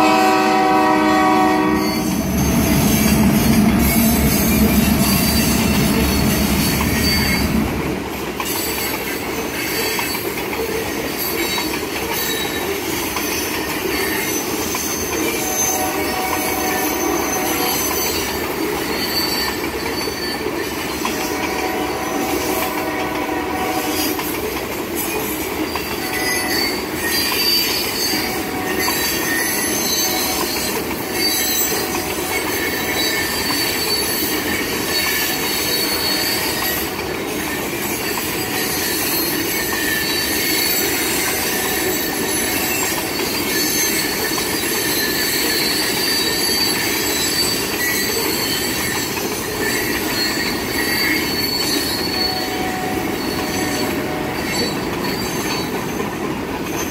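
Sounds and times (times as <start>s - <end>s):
freight train rolling rumble: 0.0s - 56.9s
train wheels squealing on rails: 0.0s - 56.9s.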